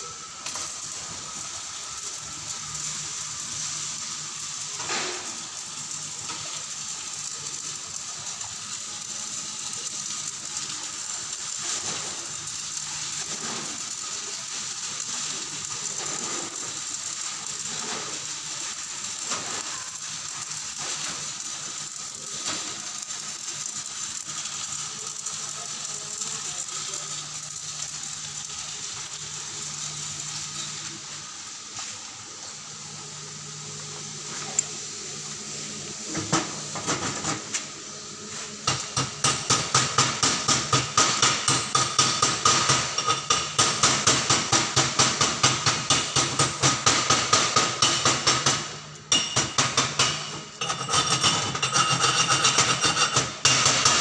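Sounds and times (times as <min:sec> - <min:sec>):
welding arc crackling: 0:00.0 - 0:54.0.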